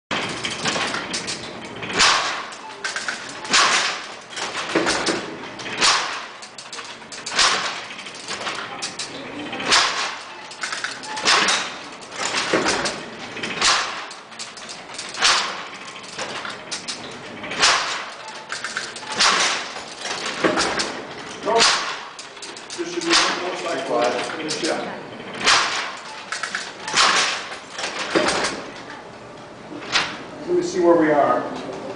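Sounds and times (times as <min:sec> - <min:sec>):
metal mechanism clattering: 0:00.1 - 0:29.1.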